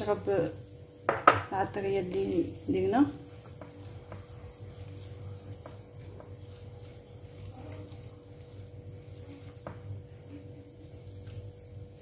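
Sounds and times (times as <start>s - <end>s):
faint steady hum: 0.0s - 12.0s
hands squishing spice paste: 1.5s - 12.0s.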